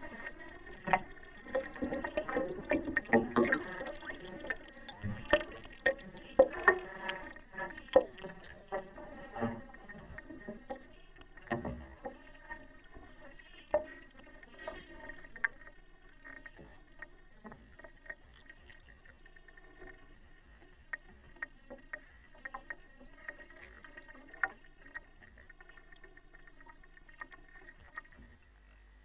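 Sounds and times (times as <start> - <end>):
water sloshing and gurgling: 0.0 - 28.6.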